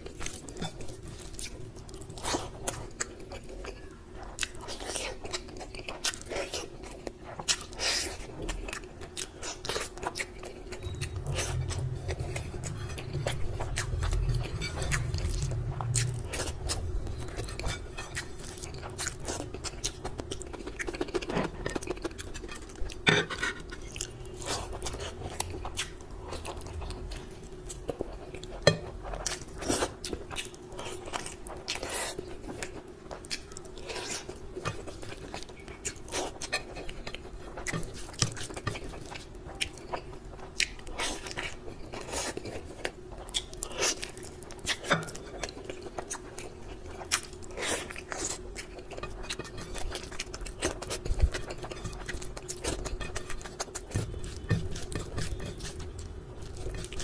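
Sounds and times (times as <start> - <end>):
faint steady hum: 0.0 - 57.0
wet chewing mouth sounds: 0.1 - 57.0.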